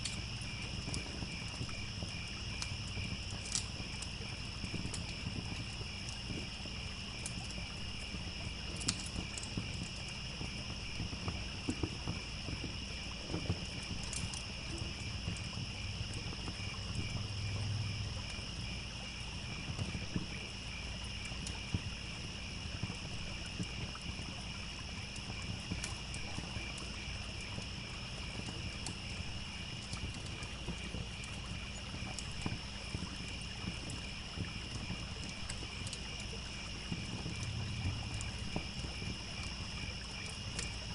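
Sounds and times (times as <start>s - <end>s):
campfire crackling and popping: 0.0s - 40.9s
crickets chirping: 0.0s - 40.9s
trickling stream: 0.0s - 40.9s.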